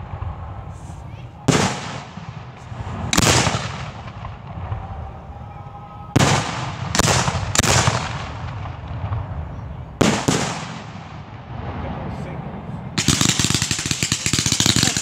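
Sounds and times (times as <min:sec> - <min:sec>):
firework shells booming: 0:00.0 - 0:15.0.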